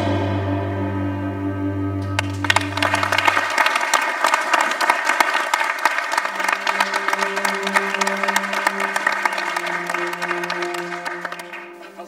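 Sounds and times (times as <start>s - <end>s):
music with sustained notes: 0.0s - 4.7s, 5.8s - 12.0s
audience applauding: 2.2s - 12.0s.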